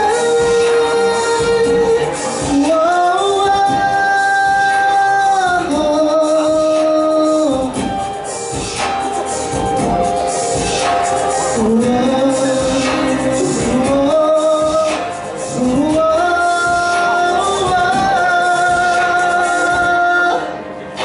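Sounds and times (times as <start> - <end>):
man singing long held notes: 0.0 - 7.8, 11.2 - 21.0
backing music: 0.0 - 21.0.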